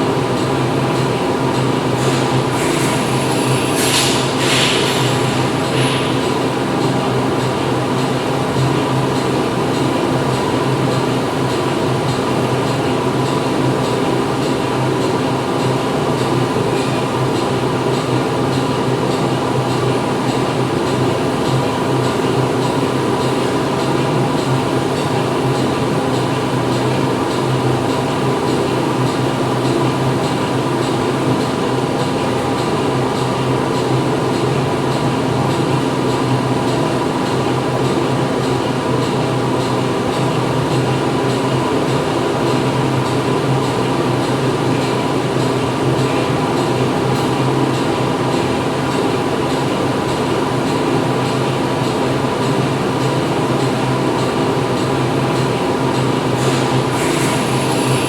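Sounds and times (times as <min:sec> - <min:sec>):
factory machinery running: 0:00.0 - 0:58.0
steady machine hums: 0:00.0 - 0:58.0.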